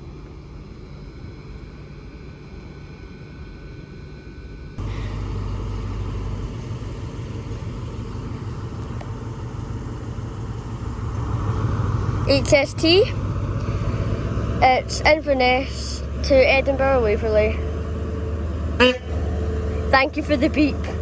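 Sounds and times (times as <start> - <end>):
diesel train engine rumbling: 0.0 - 21.0.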